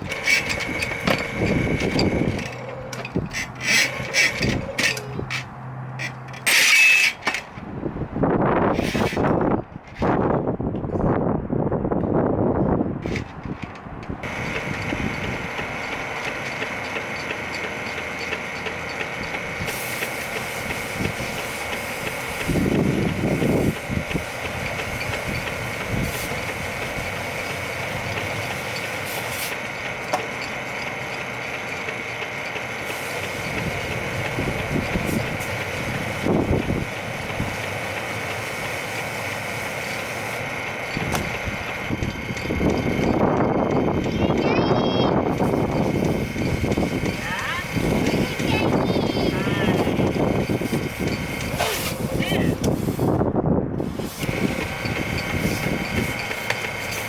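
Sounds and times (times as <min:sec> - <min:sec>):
drain snake motor whining: 0:00.0 - 0:07.2, 0:14.1 - 0:57.0.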